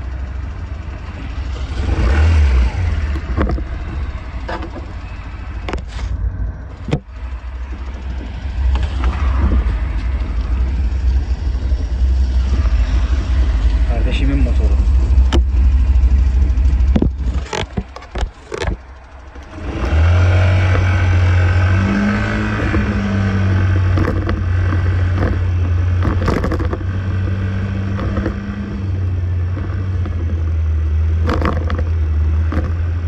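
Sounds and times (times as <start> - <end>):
motorcycle engine running: 0.0 - 33.0
wind rumble on microphone: 5.6 - 33.0.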